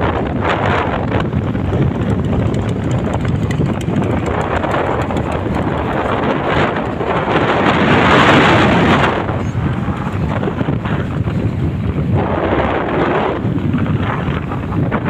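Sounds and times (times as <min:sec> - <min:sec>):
motorcycle engine: 0:00.0 - 0:15.0
road noise: 0:00.0 - 0:15.0
wind buffeting microphone: 0:00.0 - 0:15.0.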